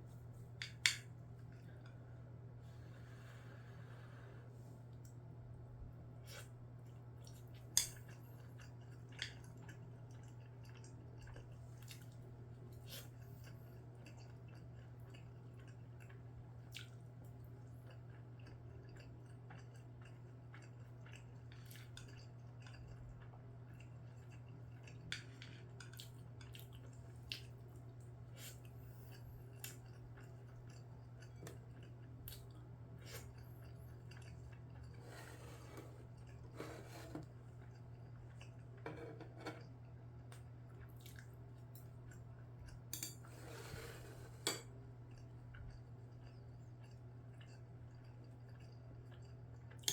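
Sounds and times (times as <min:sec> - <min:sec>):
faint chewing: 0:06.2 - 0:43.3, 0:45.0 - 0:49.9.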